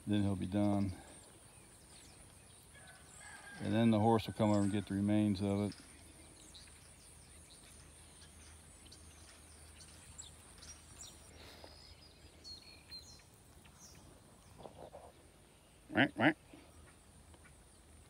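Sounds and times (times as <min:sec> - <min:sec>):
small birds chirping: 0:00.0 - 0:18.0
steady high-pitched hiss: 0:00.0 - 0:18.0.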